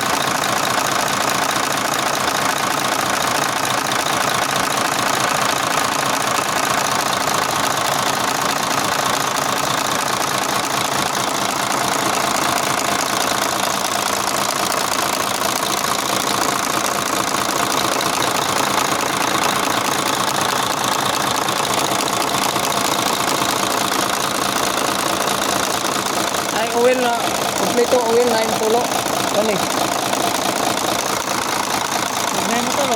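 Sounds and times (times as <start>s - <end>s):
truck diesel engine idling: 0.0s - 32.9s.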